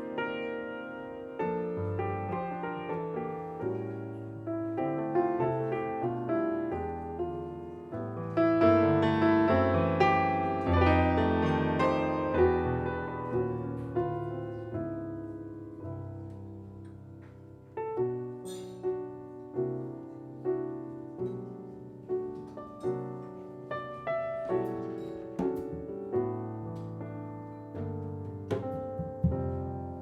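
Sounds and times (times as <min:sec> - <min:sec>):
jazz piano playing: 0:00.0 - 0:30.0.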